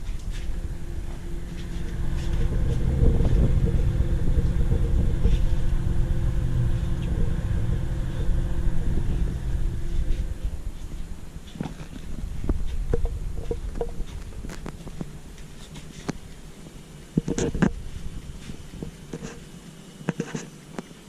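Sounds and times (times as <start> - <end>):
machine motor humming: 0.0 - 19.8.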